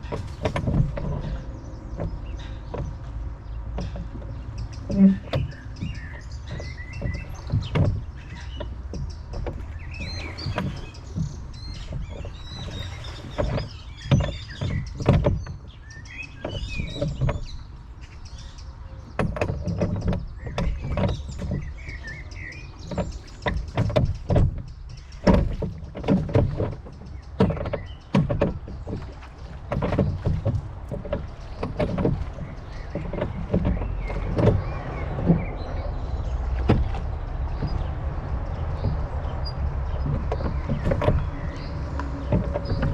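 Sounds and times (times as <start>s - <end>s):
birds chirping: 0.0s - 42.9s
oars knocking and splashing: 0.0s - 42.9s.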